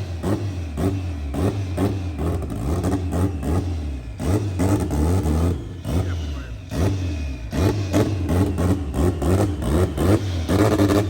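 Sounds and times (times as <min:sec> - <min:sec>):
car engine revving in surges: 0:00.0 - 0:11.0.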